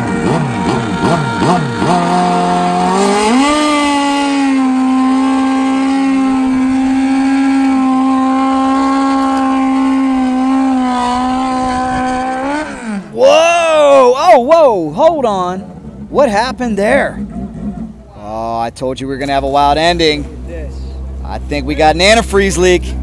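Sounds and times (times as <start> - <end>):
motorcycle engine revving high: 0.0 - 18.5
rear tire spinning: 0.0 - 23.0.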